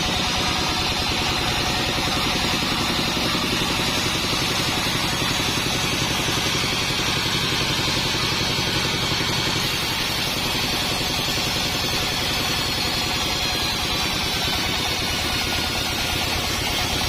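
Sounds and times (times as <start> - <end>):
band sawmill running: 0.0 - 17.0.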